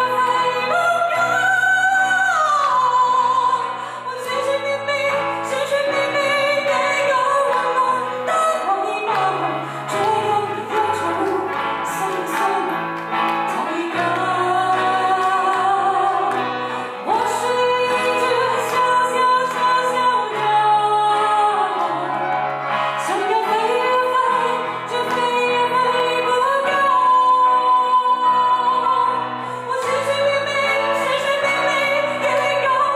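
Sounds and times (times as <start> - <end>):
woman singing a ballad: 0.0 - 32.9.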